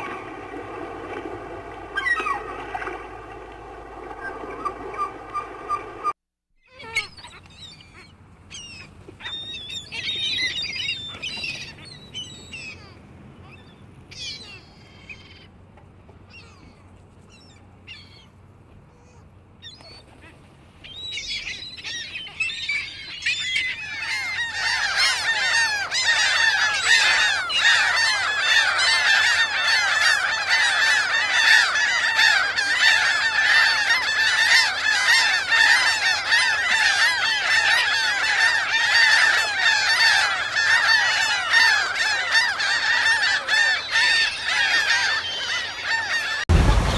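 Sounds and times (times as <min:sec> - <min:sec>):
seagulls crying: 0:00.0 - 0:46.9.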